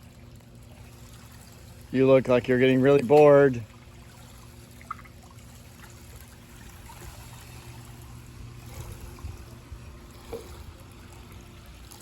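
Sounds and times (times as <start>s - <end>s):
low steady hum: 0.0s - 12.0s
water running and trickling: 0.0s - 12.0s.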